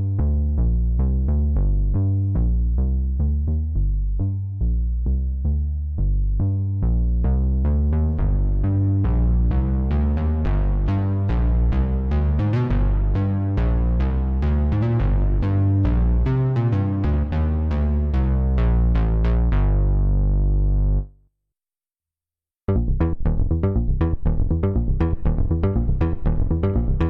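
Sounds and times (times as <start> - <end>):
synthesizer bass sequence: 0.0 - 21.2, 22.7 - 27.0
synthesizer plucked notes: 0.0 - 21.2, 22.7 - 27.0.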